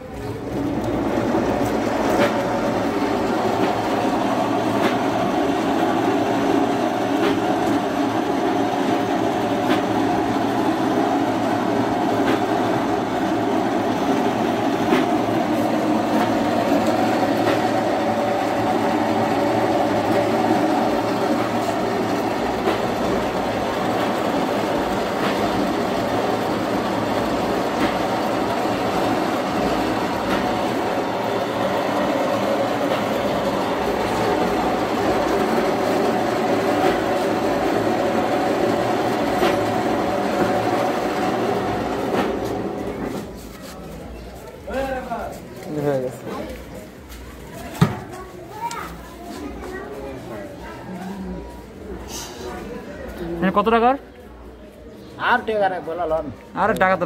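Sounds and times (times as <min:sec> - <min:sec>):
cotton candy machine humming: 0:00.0 - 0:57.0.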